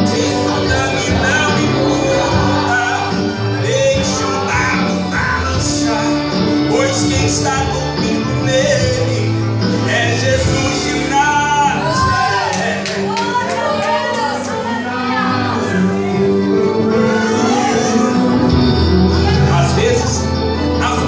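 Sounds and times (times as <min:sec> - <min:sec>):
man singing into a microphone: 0:00.0 - 0:12.9, 0:14.8 - 0:21.0.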